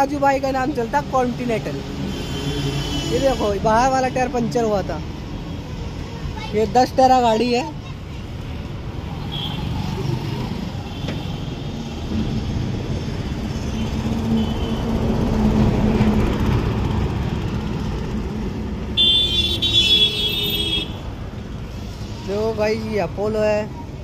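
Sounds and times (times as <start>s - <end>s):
motor vehicles rumbling on road: 0.0s - 24.0s.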